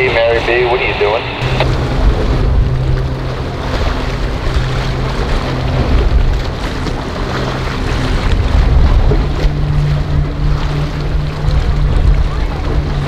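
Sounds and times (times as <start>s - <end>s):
outboard engine running: 0.0s - 13.0s
water splashing: 0.0s - 13.0s
wind noise: 1.2s - 13.0s.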